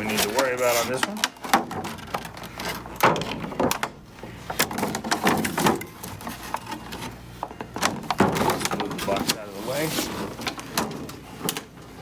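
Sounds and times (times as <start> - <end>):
packaging rustling and scraping: 0.0 - 3.6, 4.7 - 11.7.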